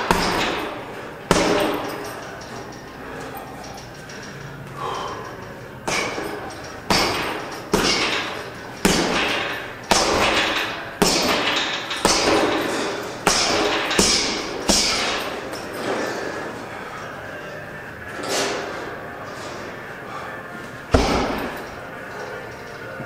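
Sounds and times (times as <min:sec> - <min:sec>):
gym weights clanking: 0:00.0 - 0:23.0.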